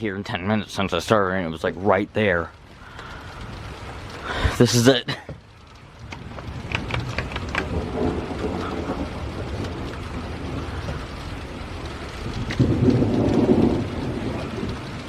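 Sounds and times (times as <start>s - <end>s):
rain falling: 0.0s - 15.0s
raindrops ticking close by: 0.0s - 15.0s
thunder rumbling: 0.0s - 15.0s.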